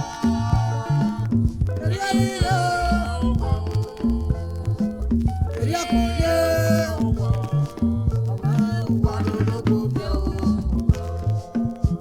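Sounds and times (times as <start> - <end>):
highlife band music: 0.0 - 12.0.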